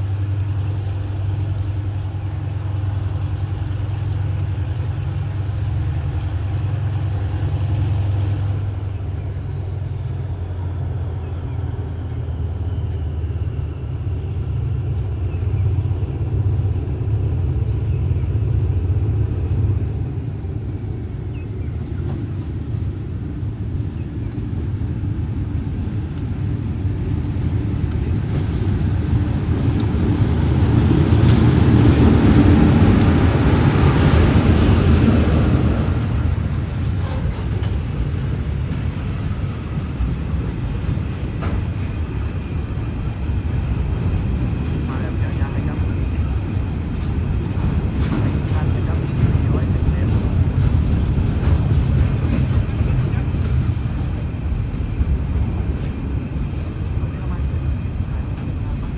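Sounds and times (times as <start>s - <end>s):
passing train rumble: 0.0s - 58.9s.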